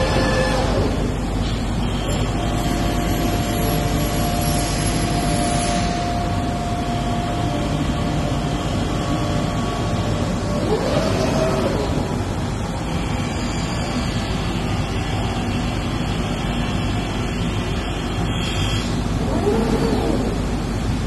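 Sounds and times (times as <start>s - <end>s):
faint steady whine: 0.0s - 21.0s
machinery rumble and hiss: 0.0s - 21.0s.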